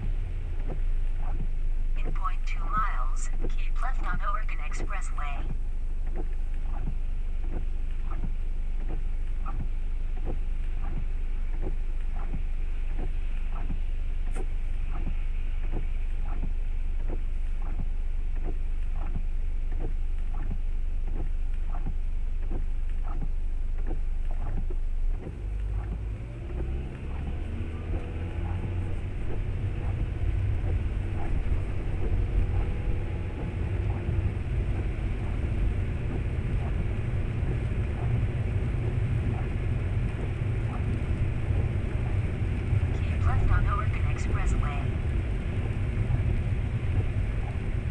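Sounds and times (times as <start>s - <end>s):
car cabin rumble: 0.0s - 47.9s
engine and road noise: 0.0s - 47.9s
regular ticking: 0.0s - 47.9s.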